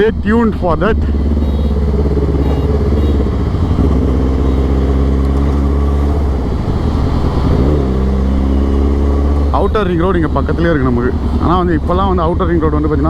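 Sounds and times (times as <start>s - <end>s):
motorcycle engine riding: 0.0s - 13.0s.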